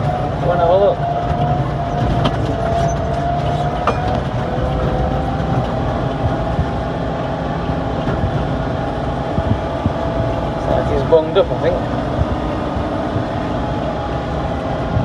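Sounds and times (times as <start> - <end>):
tractor engine rumble: 0.0 - 15.0.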